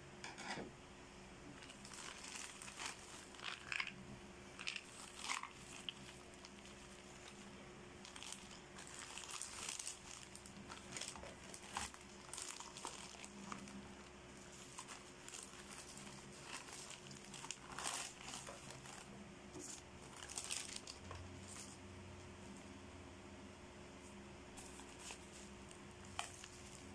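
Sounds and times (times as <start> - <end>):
bubble wrap crinkling: 1.5 - 21.8, 24.6 - 26.9
plastic pouch rustling: 1.6 - 4.0, 4.6 - 21.8, 24.6 - 26.9.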